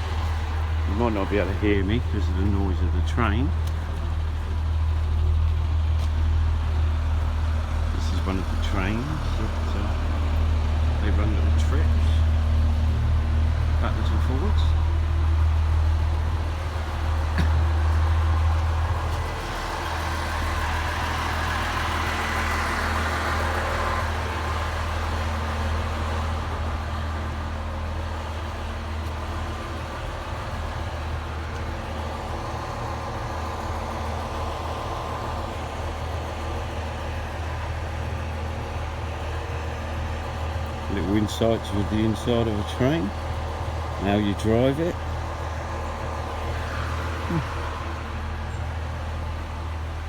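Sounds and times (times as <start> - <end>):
diesel train engine humming: 0.0 - 50.0.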